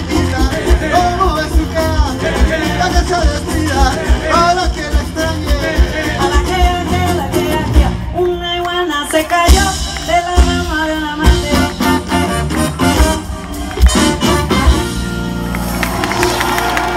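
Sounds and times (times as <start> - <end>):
live band with singer: 0.0 - 16.9.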